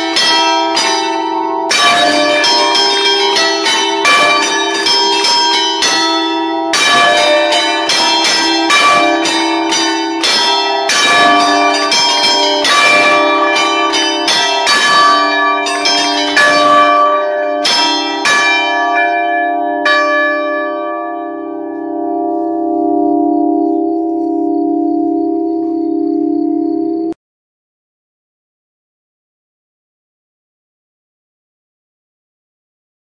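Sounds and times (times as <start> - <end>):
church bells ringing: 0.0 - 27.2.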